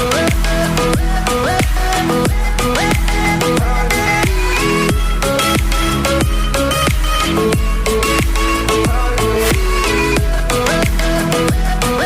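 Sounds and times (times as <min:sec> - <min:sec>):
electronic pop music: 0:00.0 - 0:12.0.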